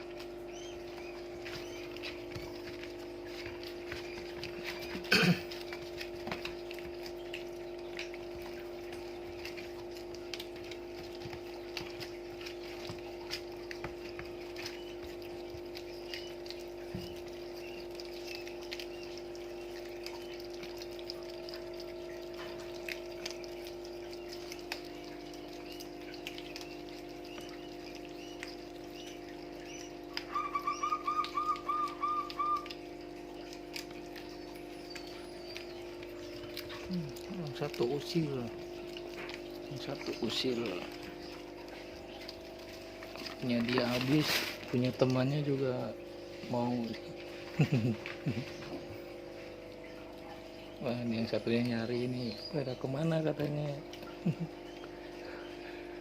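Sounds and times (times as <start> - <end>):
animals chewing and crunching: 0.0 - 56.0
steady low hum: 0.0 - 56.0.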